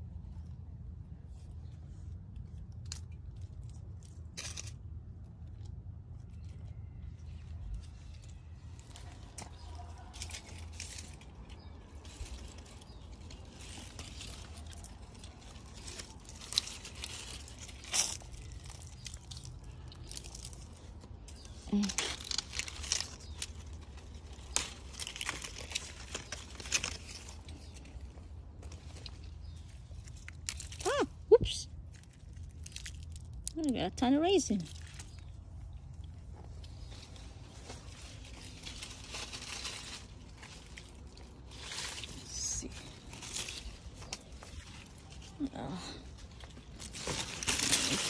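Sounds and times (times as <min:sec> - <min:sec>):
grapevine leaves rustling: 0:01.3 - 0:48.0.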